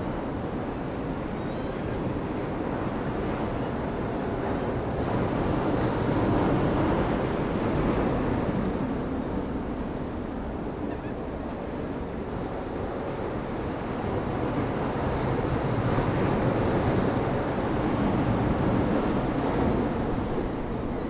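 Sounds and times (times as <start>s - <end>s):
ocean surf rushing: 0.0s - 21.0s
wind buffeting microphone: 0.0s - 21.0s.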